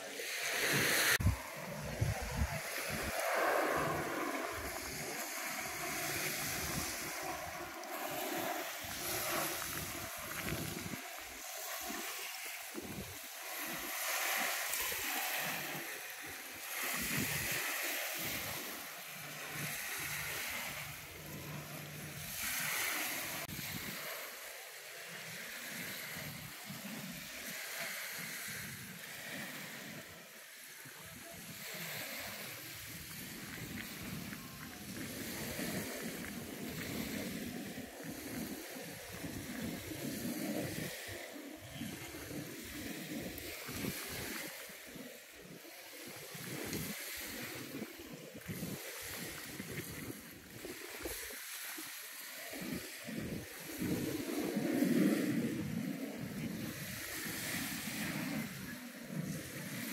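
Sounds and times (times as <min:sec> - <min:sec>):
waves washing onto sandy shore: 0:00.0 - 0:59.9
wind noise on microphone: 0:00.2 - 0:59.9.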